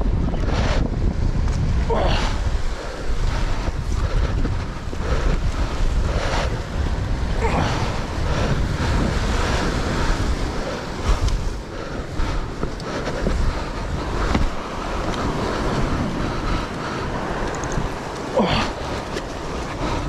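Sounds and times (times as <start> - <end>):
ocean swell washing against rock: 0.0 - 20.0
wind buffeting microphone: 0.0 - 20.0.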